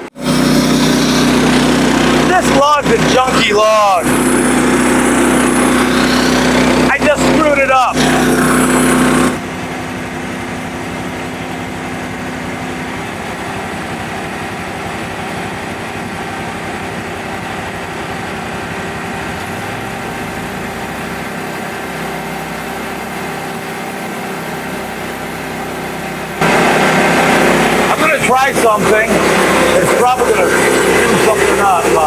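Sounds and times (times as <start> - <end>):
sawmill engine running: 0.0 - 32.0.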